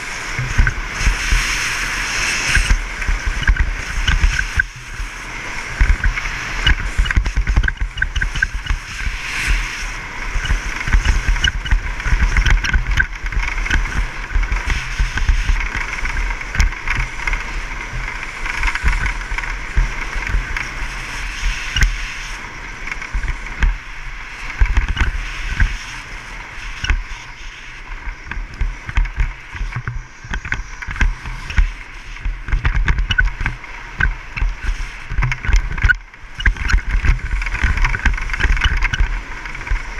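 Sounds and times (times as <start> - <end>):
skis carving snow: 0.0 - 39.9
wind buffeting microphone: 0.0 - 39.9.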